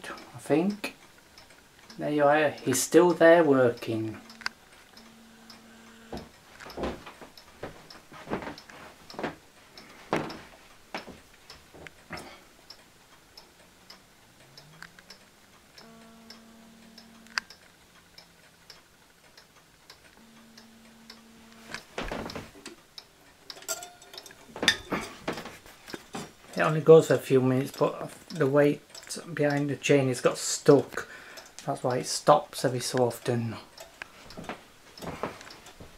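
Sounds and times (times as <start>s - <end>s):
wall clock ticking: 0.0s - 35.9s.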